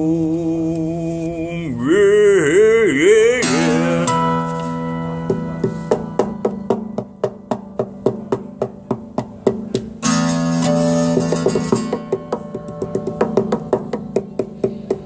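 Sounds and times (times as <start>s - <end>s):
guitar picked notes and chords: 0.0s - 15.0s.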